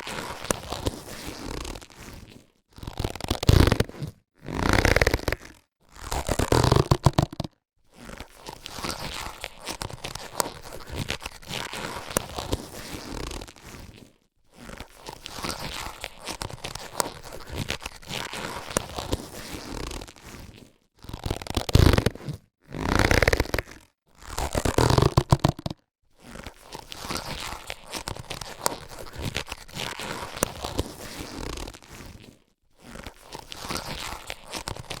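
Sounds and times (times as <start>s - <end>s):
latex gloves crinkling: 0.0s - 35.0s.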